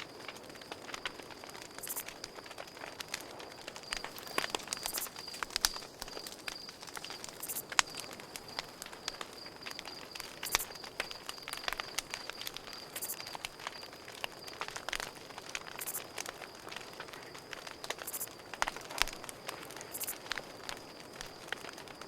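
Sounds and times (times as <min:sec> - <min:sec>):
campfire crackling and popping: 0:00.0 - 0:22.0
cricket chirping: 0:00.0 - 0:22.0.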